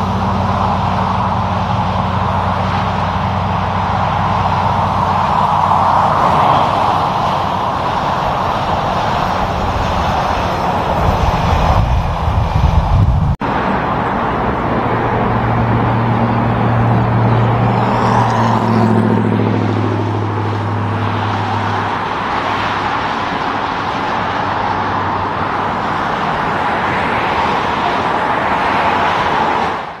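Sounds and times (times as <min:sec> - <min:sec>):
truck diesel engine droning: 0:00.0 - 0:30.0
tyres hissing on road: 0:00.0 - 0:30.0.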